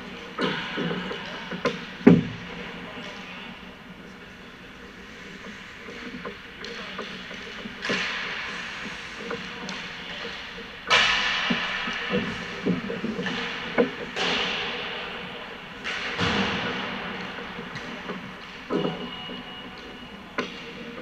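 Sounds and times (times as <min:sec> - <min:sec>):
hockey sticks clacking on pucks: 0:00.0 - 0:03.6, 0:04.2 - 0:21.0.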